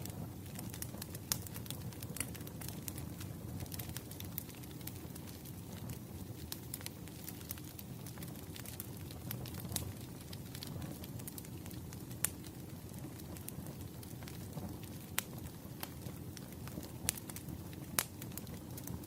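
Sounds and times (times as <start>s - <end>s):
fire crackling and popping: 0.0s - 19.0s
flames rumbling: 0.0s - 19.0s.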